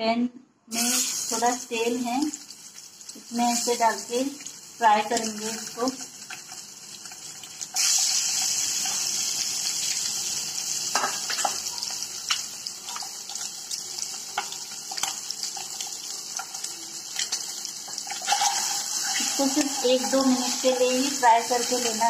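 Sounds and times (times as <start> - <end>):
eggs sizzling in hot oil: 0.7 - 22.0
oil popping and crackling: 2.2 - 22.0.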